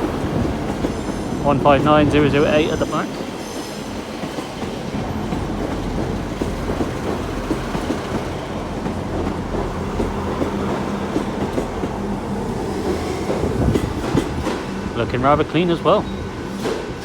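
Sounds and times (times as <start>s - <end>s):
train wheels clicking over track: 0.0s - 15.0s, 16.4s - 17.0s.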